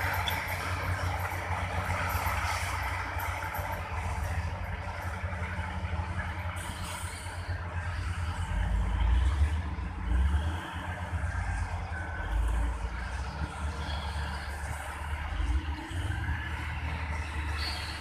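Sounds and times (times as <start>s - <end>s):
dump truck diesel engine rumble: 0.0s - 18.0s.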